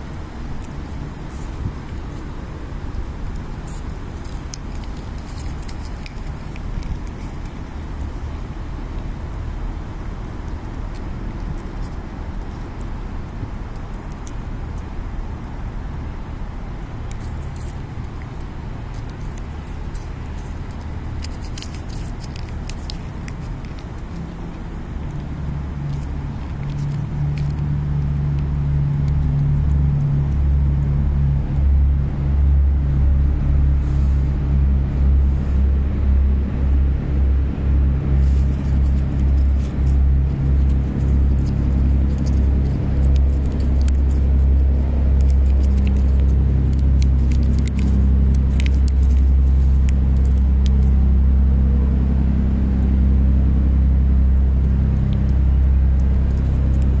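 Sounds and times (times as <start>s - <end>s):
cat licking with wet clicks: 0.0s - 31.0s, 37.8s - 51.2s, 54.3s - 57.0s.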